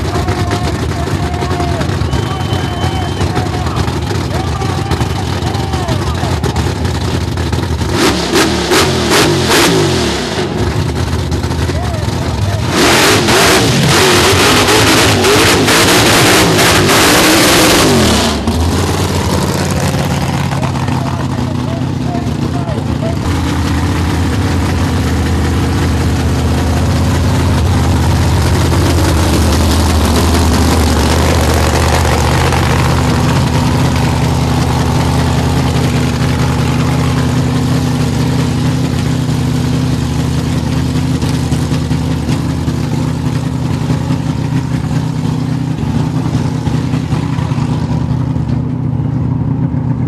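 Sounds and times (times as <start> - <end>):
supercharged engine idling loudly: 0.0 - 50.0.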